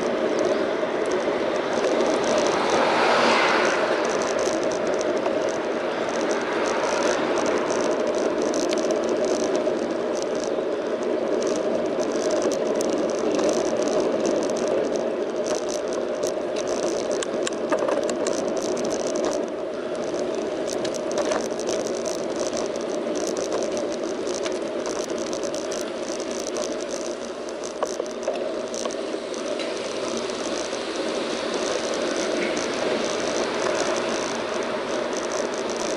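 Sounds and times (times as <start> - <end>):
bicycle tyre and wind noise: 0.0 - 35.9
bike rattles and clicks: 0.0 - 35.9.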